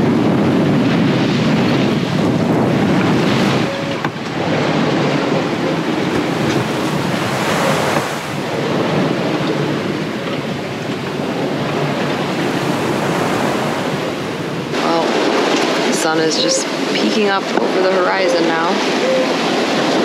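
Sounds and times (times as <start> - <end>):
seawater rushing past hull: 0.0 - 20.0
wind buffeting microphone: 0.0 - 20.0.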